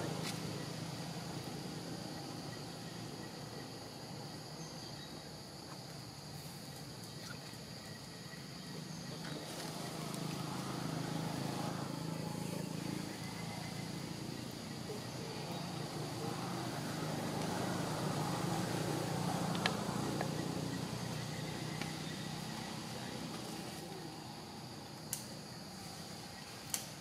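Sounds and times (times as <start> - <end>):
distant motor vehicle hum: 0.0 - 27.0.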